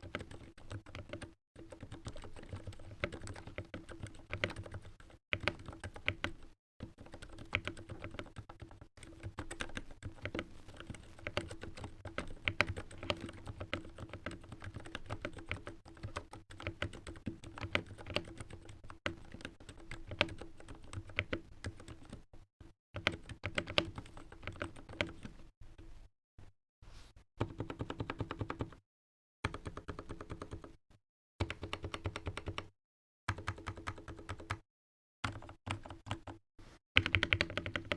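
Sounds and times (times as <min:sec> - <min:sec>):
typing on mechanical keyboard: 0:00.0 - 0:22.3, 0:23.0 - 0:25.3, 0:27.4 - 0:28.8, 0:29.5 - 0:30.8, 0:31.4 - 0:32.7, 0:33.3 - 0:34.6, 0:35.2 - 0:36.4, 0:37.0 - 0:37.9.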